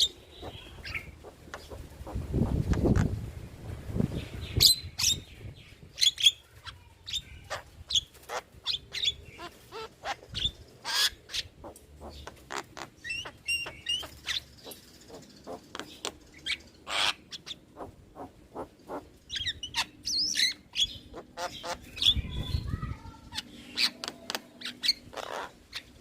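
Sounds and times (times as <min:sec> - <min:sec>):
myna chirping and whistling: 0:00.0 - 0:03.1, 0:04.2 - 0:22.7.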